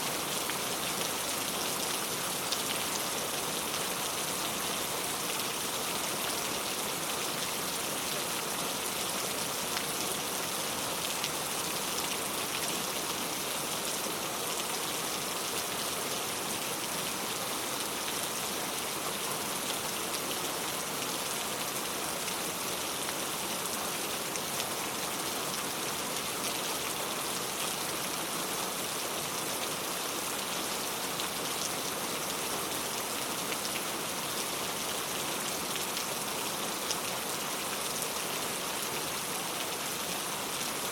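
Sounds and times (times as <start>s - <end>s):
heavy rain pattering on surfaces: 0.0s - 40.9s.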